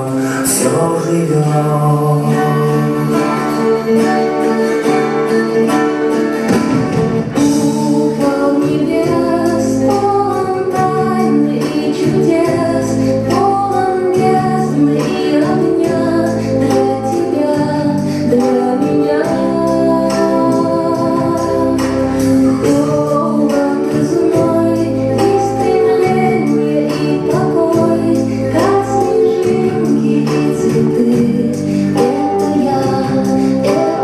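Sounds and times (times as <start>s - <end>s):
woman singing over instruments: 0.0s - 34.0s.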